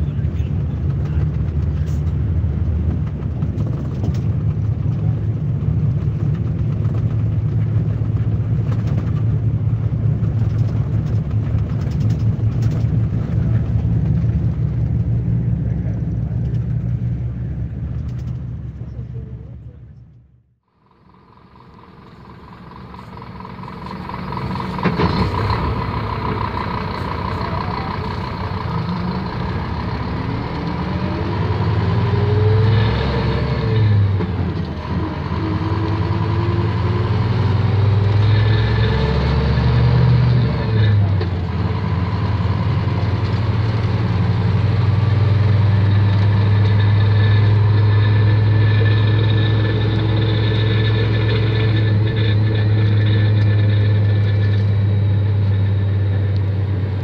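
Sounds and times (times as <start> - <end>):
diesel engine pulling hard: 0.0 - 20.1, 20.7 - 57.0.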